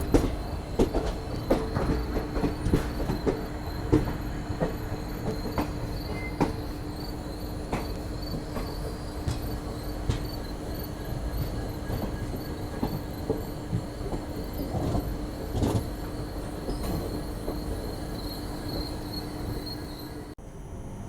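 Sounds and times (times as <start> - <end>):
train wheels rumbling on track: 0.0 - 20.4.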